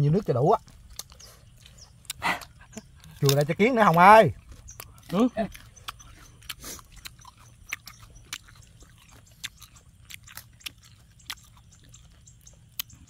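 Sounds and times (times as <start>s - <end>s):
person chewing: 0.1s - 13.0s
small crunchy clicks: 0.6s - 13.0s.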